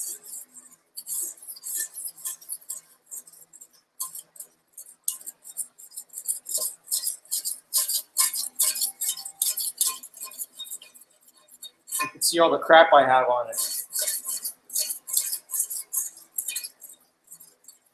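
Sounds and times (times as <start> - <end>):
blade scraping filler off glass: 0.0 - 12.4, 13.5 - 17.9.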